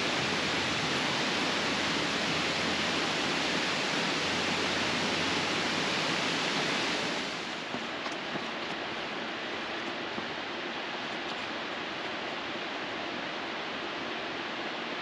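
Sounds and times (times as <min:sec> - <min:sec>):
rushing running water: 0:00.0 - 0:15.0.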